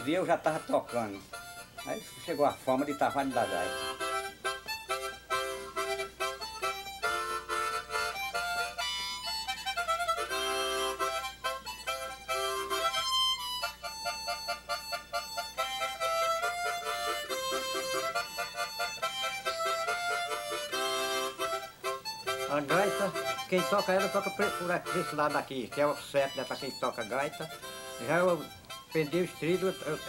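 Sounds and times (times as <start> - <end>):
solo harmonica tune: 0.0 - 30.0.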